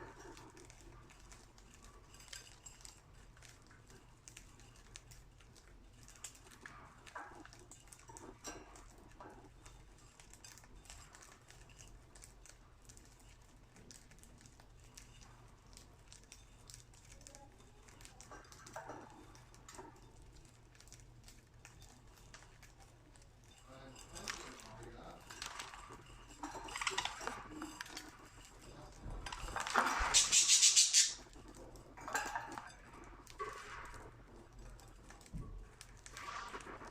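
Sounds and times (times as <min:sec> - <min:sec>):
birds pecking seeds: 0:00.0 - 0:36.9.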